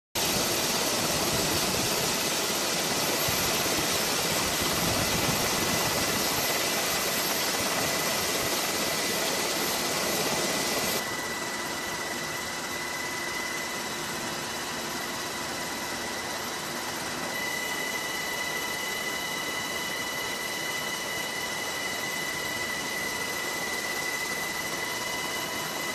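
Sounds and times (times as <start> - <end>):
helicopter engine and rotor noise: 0.2 - 25.9
helicopter turbine whine: 0.2 - 25.9.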